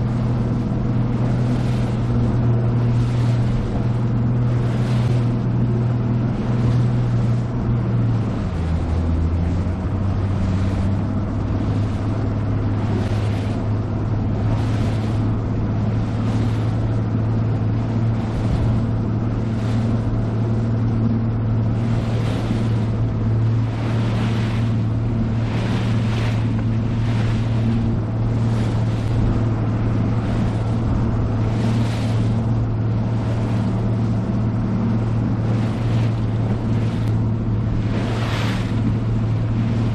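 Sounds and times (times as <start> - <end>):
outboard motor running: 0.0 - 39.9
water washing against hull: 0.0 - 39.9.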